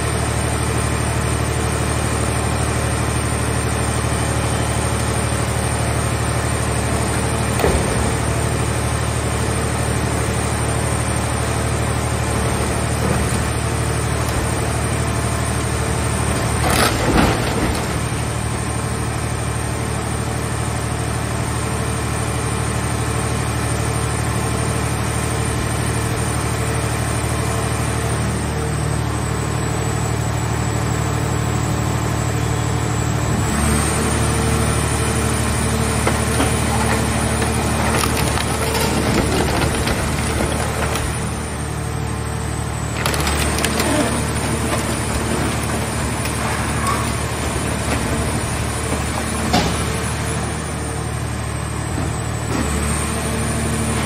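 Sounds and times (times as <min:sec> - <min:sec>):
hydraulic power unit running: 0:00.0 - 0:54.0.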